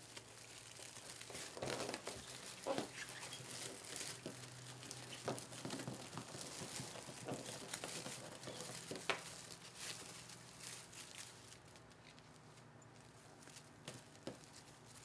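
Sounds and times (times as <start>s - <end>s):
fabric mesh rustling and crinkling: 0.0s - 15.0s.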